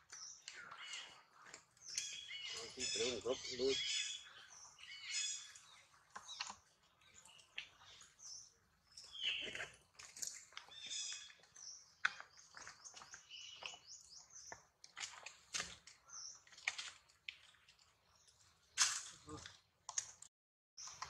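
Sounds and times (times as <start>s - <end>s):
small birds chirping: 0.0s - 19.8s, 20.8s - 21.0s.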